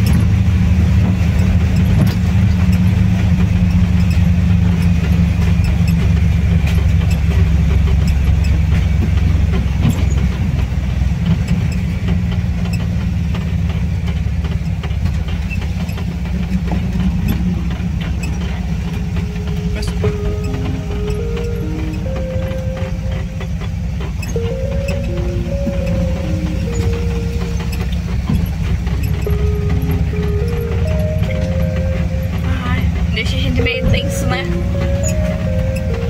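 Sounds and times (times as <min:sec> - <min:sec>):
road noise: 0:00.0 - 0:36.0
van engine humming: 0:00.0 - 0:36.0.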